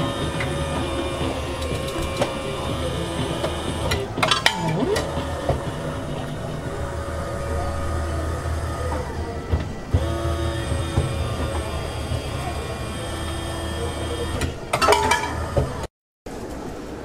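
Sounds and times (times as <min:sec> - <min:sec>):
vending machine motor whirring: 0:00.0 - 0:15.9.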